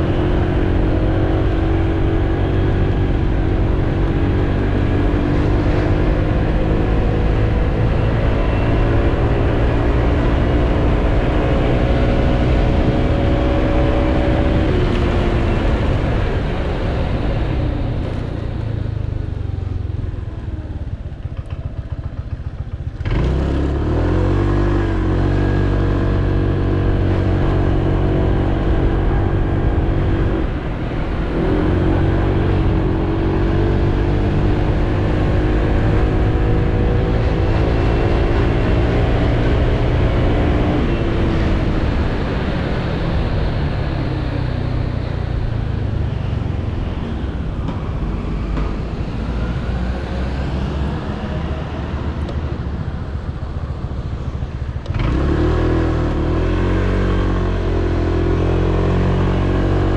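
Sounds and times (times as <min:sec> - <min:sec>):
scooter engine accelerating: 0:00.0 - 0:59.9
wind and road noise: 0:00.0 - 0:59.9.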